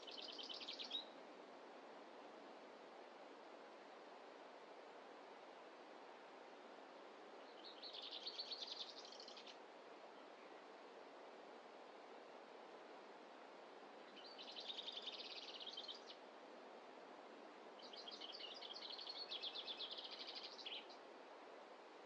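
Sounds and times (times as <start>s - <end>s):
faint background hiss: 0.0s - 22.0s.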